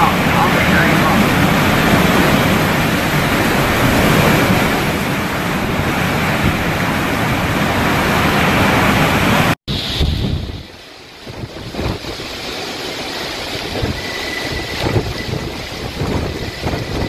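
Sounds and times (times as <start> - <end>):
heavy rain: 0.0 - 17.0
storm wind: 0.0 - 17.0
wind buffeting microphone: 0.0 - 17.0.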